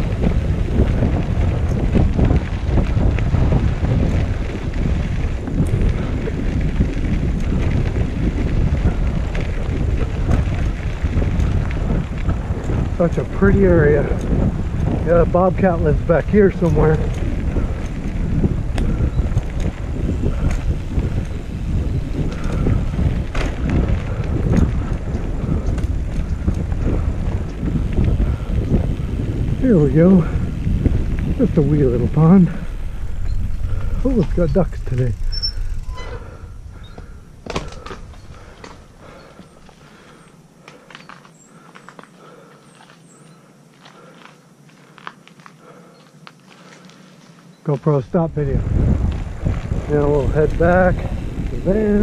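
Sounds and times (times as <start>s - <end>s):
wind buffeting microphone: 0.0s - 40.9s, 47.5s - 52.0s
tyres rolling over dirt: 0.0s - 52.0s.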